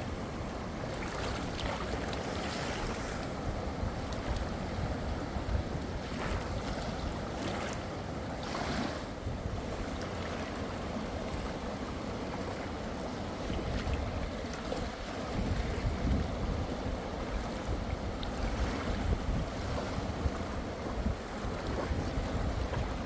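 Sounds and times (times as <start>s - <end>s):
sea waves washing: 0.0s - 23.0s
wind buffeting microphone: 0.0s - 23.0s.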